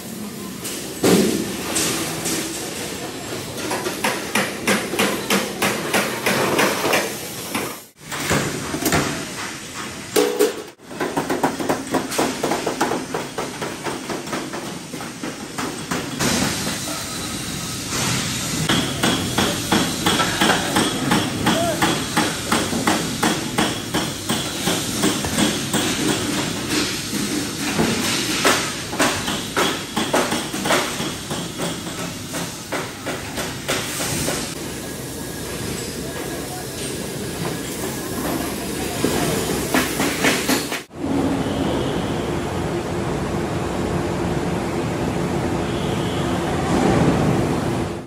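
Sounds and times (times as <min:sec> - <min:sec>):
workshop noise: 0:00.0 - 0:48.0.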